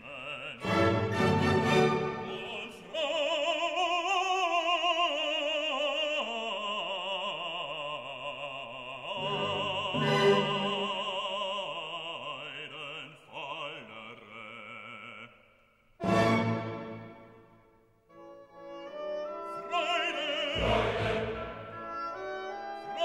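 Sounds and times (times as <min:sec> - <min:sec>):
operatic singing with vibrato: 0:00.0 - 0:23.0.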